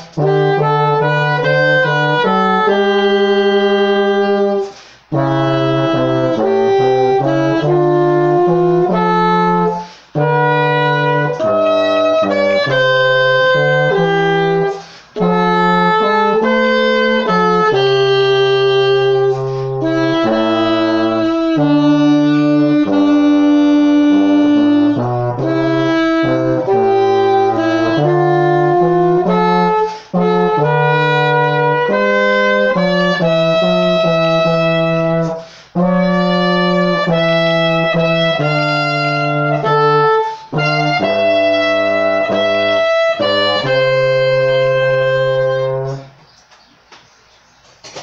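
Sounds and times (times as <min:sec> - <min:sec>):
alto saxophone melody: 0:00.0 - 0:46.5
euphonium playing: 0:00.0 - 0:46.5.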